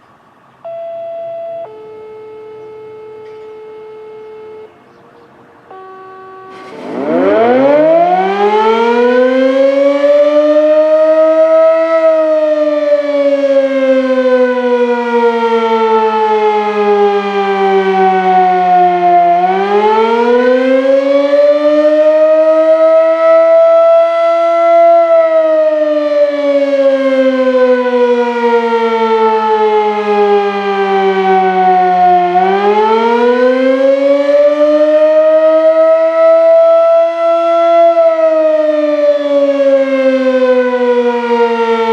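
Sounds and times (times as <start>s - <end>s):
fire siren wailing: 0.6s - 41.9s.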